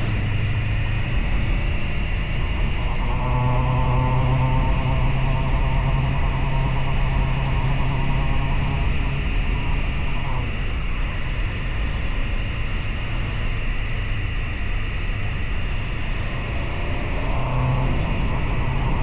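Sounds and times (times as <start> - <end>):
motorcycle engine running: 0.0 - 19.0
riding wind noise: 0.0 - 19.0.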